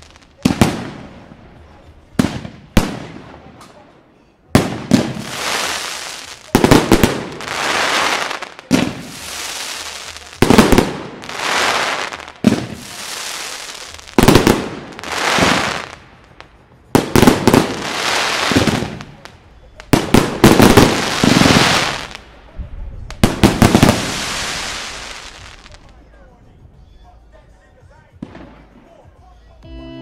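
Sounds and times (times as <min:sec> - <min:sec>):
crackling hiss of fireworks: 0:00.0 - 0:03.9, 0:04.6 - 0:26.7
fireworks bangs: 0:00.0 - 0:03.9, 0:04.5 - 0:26.0.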